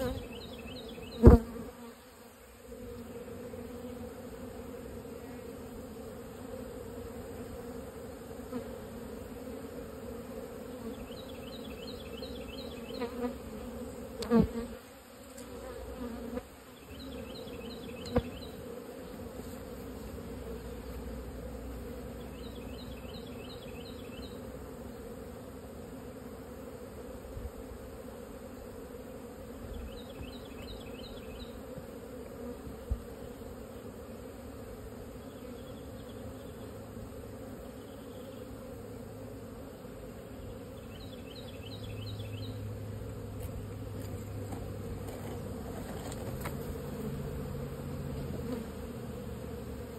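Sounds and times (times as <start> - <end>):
bees buzzing: 0.0 - 49.9.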